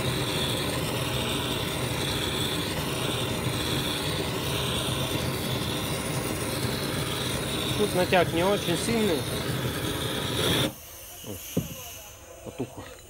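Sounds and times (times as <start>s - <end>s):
gas torch hissing: 0.0s - 13.0s.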